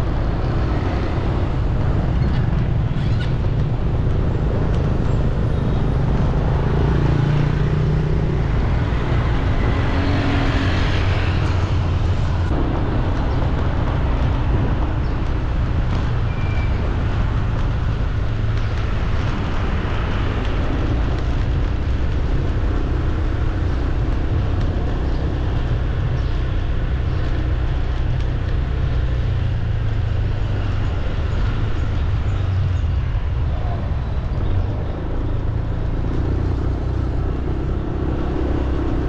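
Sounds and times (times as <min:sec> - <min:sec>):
city traffic rumble: 0:00.0 - 0:39.0.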